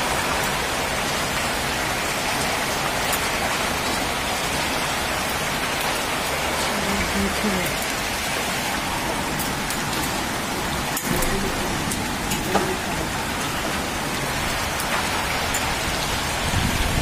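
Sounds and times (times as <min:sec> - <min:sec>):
hailstones ticking: 0:00.0 - 0:17.0
heavy rain on tiles: 0:00.0 - 0:17.0.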